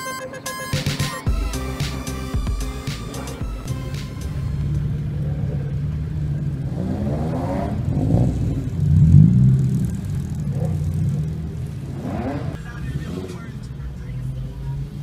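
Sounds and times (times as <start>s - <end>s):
car engines revving: 1.5s - 15.0s.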